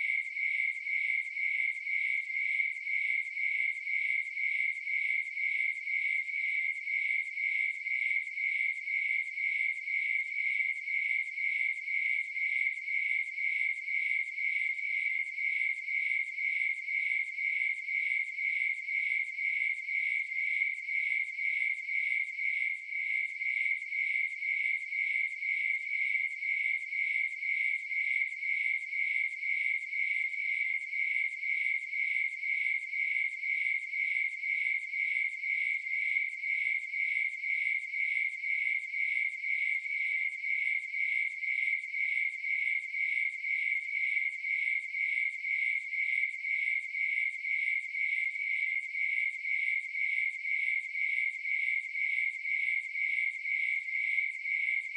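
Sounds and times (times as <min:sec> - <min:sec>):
crickets chirping: 0:00.0 - 0:54.9.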